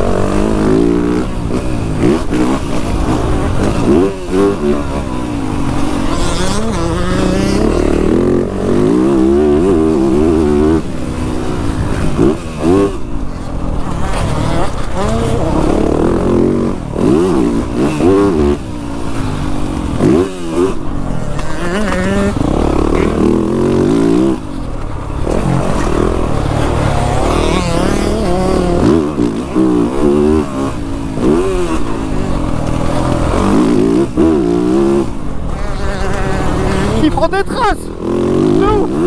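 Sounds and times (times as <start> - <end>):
motocross bike engine revving: 0.0 - 39.0.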